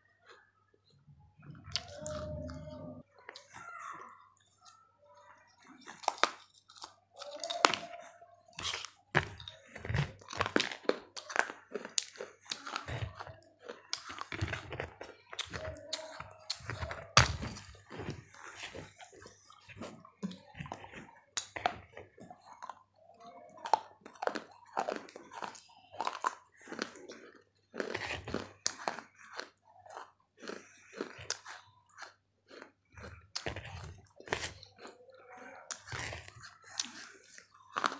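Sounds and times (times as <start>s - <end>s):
crunching clay between teeth: 5.6s - 37.9s.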